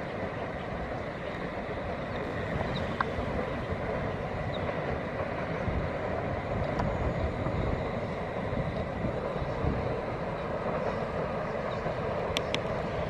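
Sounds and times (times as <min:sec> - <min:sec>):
distant passenger train rumbling: 0:00.0 - 0:13.0.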